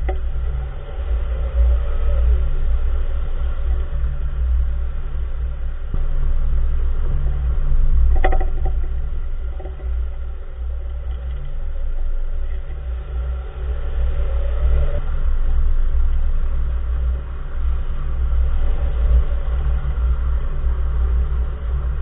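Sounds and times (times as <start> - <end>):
car road rumble: 0.0 - 22.0.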